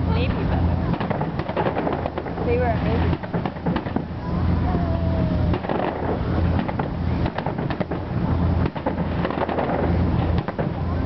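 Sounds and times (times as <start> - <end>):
heavy low rumble: 0.0 - 11.0
firework booms and cracks: 0.8 - 4.2, 5.5 - 11.0.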